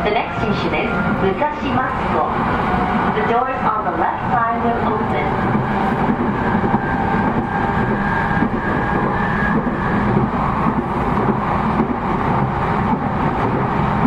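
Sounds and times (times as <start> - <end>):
train interior running noise: 0.0 - 14.0.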